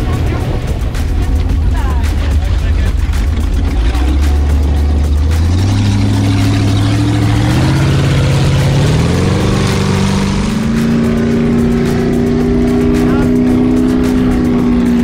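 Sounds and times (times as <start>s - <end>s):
boat engine accelerating: 0.0s - 15.0s.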